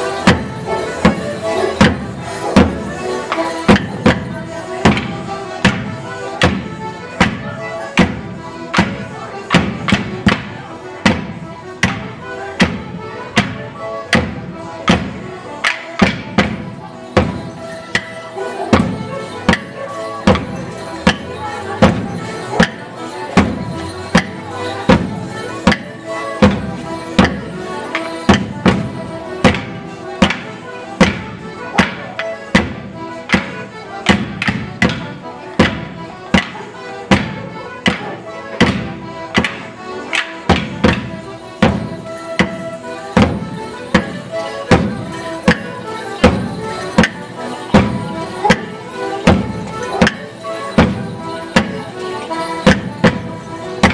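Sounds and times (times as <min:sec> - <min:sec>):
folk tune of held notes: 0:00.0 - 0:53.9
sharp percussive strikes: 0:00.0 - 0:53.9.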